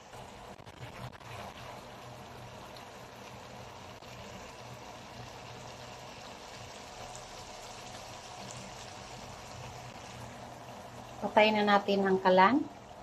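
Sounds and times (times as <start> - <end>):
stew bubbling in a pan: 0.0 - 13.0.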